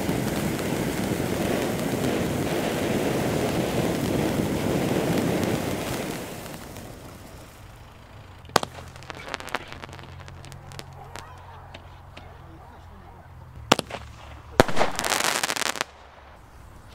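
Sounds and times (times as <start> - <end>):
small firework pops: 0.0 - 12.5, 13.4 - 16.9
firework bang: 0.0 - 12.6, 13.6 - 16.6
firework fountains hissing: 0.0 - 16.9.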